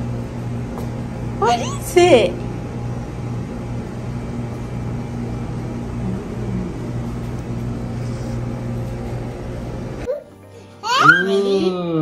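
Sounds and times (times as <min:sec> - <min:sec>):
machinery humming: 0:00.0 - 0:10.1.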